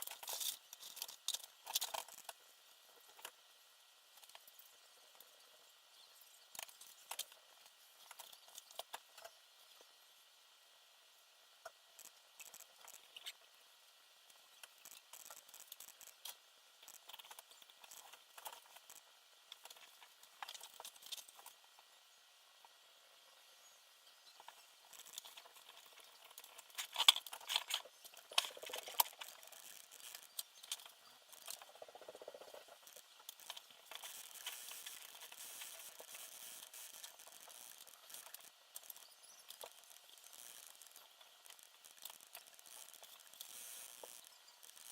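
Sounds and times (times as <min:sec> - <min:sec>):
soft hiss: 0:00.0 - 0:44.9.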